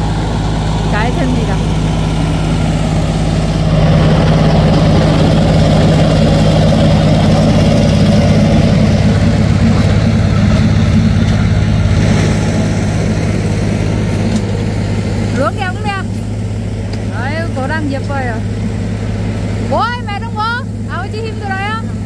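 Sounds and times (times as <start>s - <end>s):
noisy rumble: 0.0s - 22.0s
tractor engine running: 0.0s - 22.0s.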